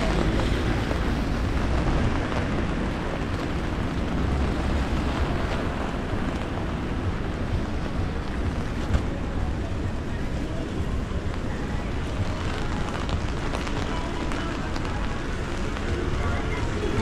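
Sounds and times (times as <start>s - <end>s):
steady rain on street: 0.0s - 17.0s
wind rumble on microphone: 0.0s - 17.0s.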